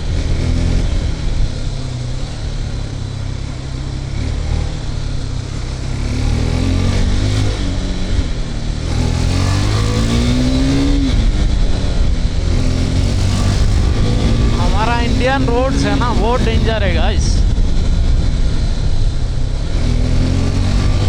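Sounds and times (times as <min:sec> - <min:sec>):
motorcycle engine accelerating: 0:00.2 - 0:16.7, 0:17.4 - 0:21.0.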